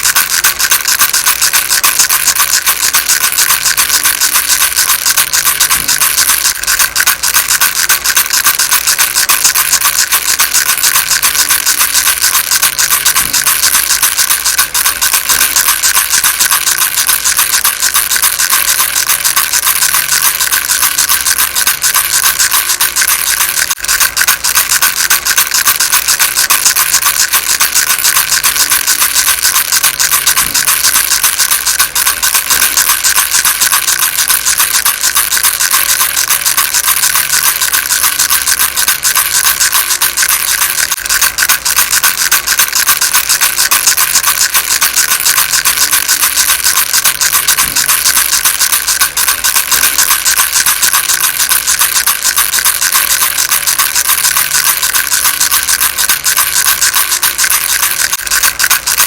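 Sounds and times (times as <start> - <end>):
baby rattle shaking: 0.0 - 59.0.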